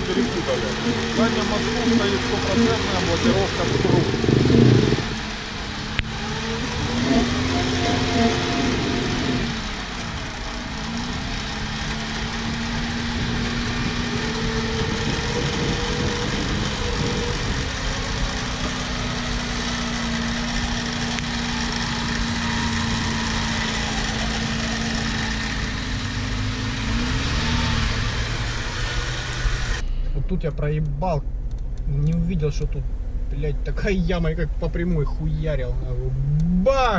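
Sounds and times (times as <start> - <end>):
off-road vehicle engine running: 0.0 - 36.9.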